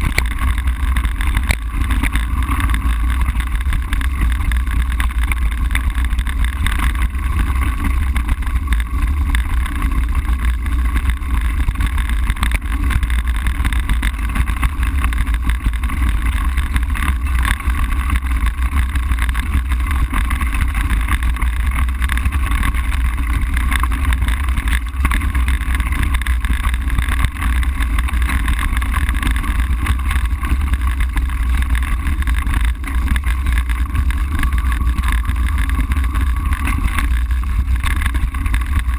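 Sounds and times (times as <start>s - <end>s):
bike tyres rumbling on gravel: 0.0s - 38.9s.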